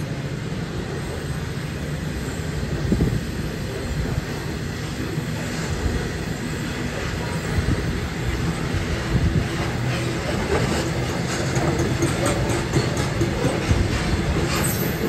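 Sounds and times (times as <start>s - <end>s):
train wheels clicking: 0.0s - 15.0s
train wheels rumbling on rail: 0.0s - 15.0s.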